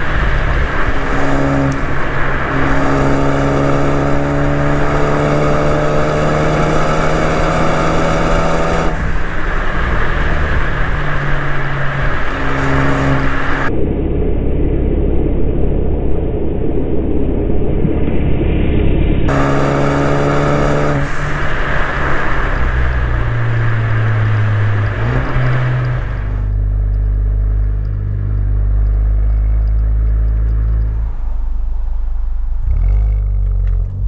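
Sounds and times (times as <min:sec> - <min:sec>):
car engine accelerating: 0:00.0 - 0:17.0, 0:17.9 - 0:34.0
road rumble: 0:00.0 - 0:34.0.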